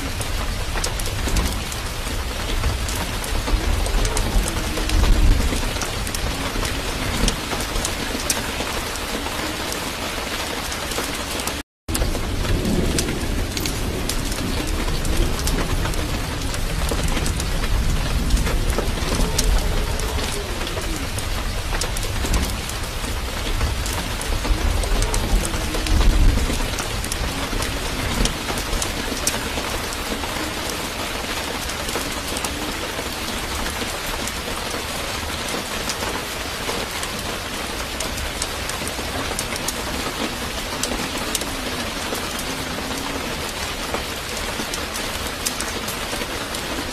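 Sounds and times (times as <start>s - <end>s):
rain pattering: 0.0s - 46.9s
thunder rumbling: 0.0s - 46.9s.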